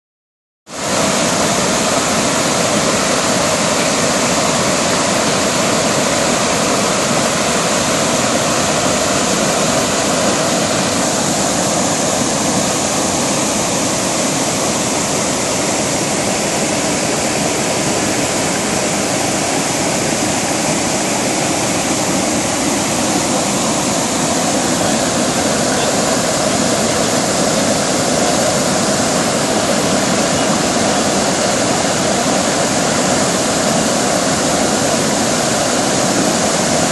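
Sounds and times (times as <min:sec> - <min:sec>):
water rushing over rapids: 0:00.7 - 0:36.9.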